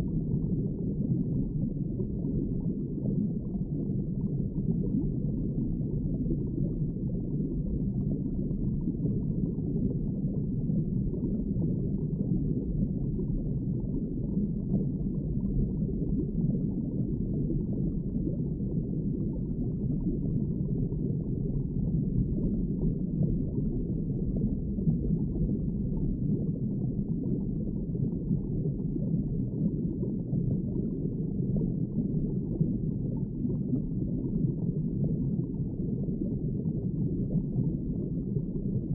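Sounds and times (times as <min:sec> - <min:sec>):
muffled underwater rush: 0:00.0 - 0:38.9.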